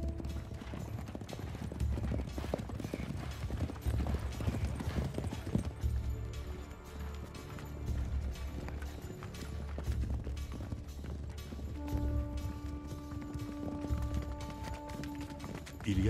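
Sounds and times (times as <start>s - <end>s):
horses galloping on stony ground: 0.0s - 16.0s
low background music: 0.0s - 16.0s.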